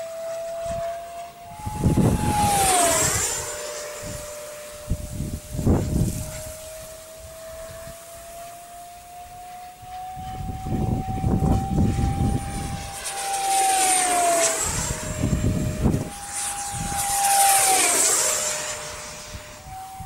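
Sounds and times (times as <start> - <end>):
fighter jets passing overhead: 0.0 - 20.0
jet engine whine: 0.0 - 20.0.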